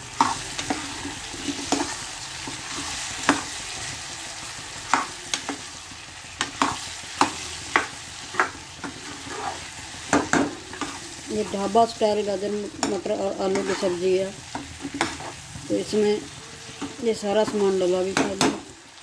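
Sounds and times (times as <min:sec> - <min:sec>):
vegetables sizzling in oil: 0:00.0 - 0:19.0
metal ladle scraping a pan: 0:00.1 - 0:04.0, 0:06.4 - 0:18.5.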